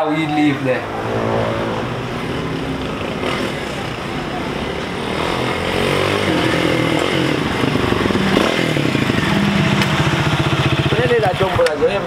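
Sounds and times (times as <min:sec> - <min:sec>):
motorcycle engine revving and idling: 0:01.2 - 0:12.0.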